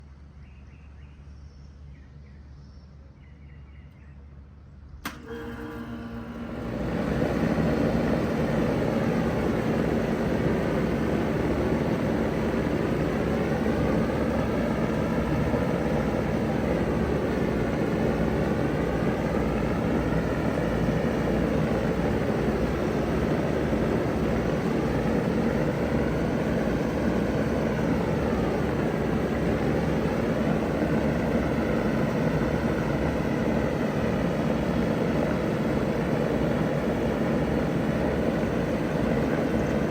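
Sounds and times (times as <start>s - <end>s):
heat pump fan rushing: 4.9s - 39.9s
low hum: 5.0s - 39.9s.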